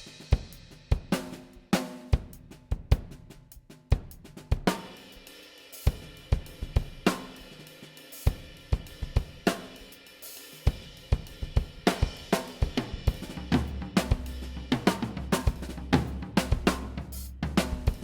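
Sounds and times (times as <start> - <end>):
drum kit playing a groove: 0.0 - 18.0.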